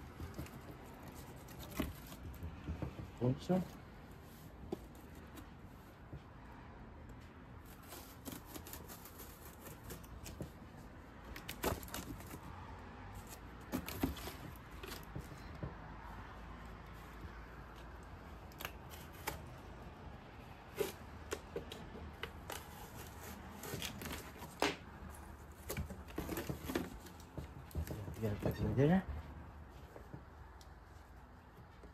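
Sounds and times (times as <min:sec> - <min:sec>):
cardboard rustling and scraping: 0:00.0 - 0:06.2, 0:07.6 - 0:31.9.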